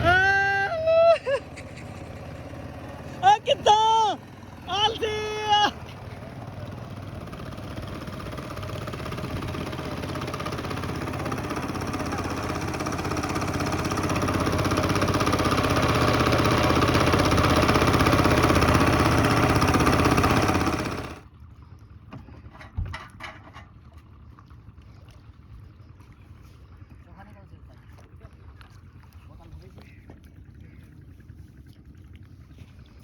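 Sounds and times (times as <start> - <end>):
motorboat engine running: 0.0 - 33.0.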